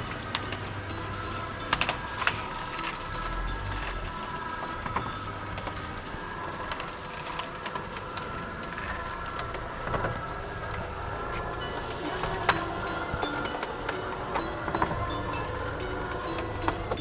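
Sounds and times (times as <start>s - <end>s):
faint motor hum: 0.0s - 17.0s.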